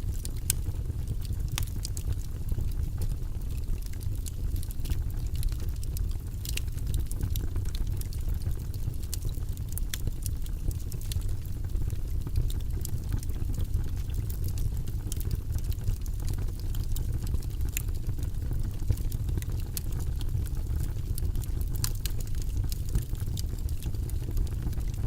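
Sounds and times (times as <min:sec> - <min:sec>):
low rush of flames: 0:00.0 - 0:25.0
wood crackling and popping: 0:00.0 - 0:25.0.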